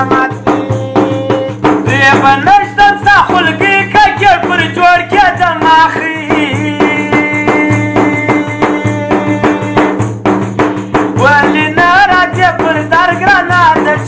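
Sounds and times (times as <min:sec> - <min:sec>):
man singing: 0:00.0 - 0:10.1, 0:11.1 - 0:14.0
frame drum beating: 0:00.0 - 0:14.0.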